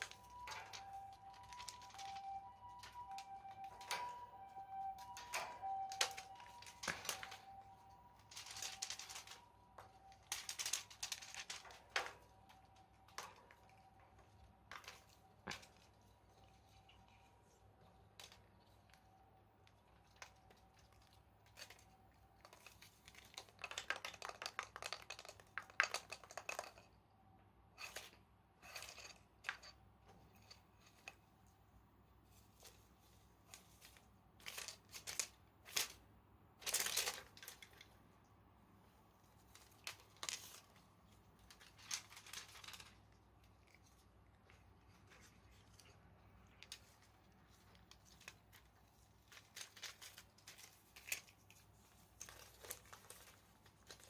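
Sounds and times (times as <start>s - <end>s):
cat toy crinkling: 0.0s - 26.9s, 32.2s - 38.1s, 38.8s - 54.0s.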